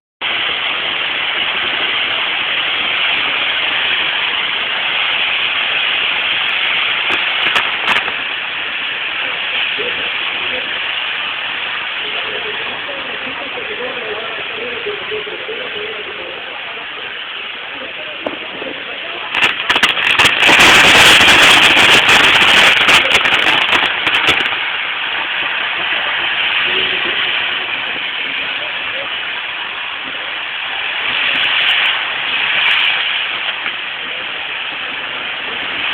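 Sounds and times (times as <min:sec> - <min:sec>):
fireworks hissing: 0:00.2 - 0:35.9
sharp fireworks pops: 0:00.2 - 0:35.9.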